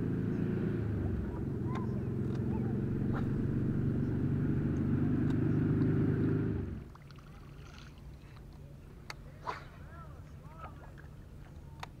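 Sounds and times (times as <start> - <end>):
boat motor rumbling: 0.0 - 12.0.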